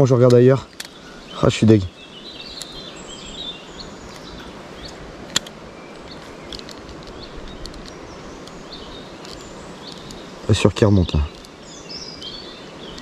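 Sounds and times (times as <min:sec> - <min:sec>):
bird chirps: 0:00.0 - 0:13.0
steady background hiss: 0:00.0 - 0:13.0.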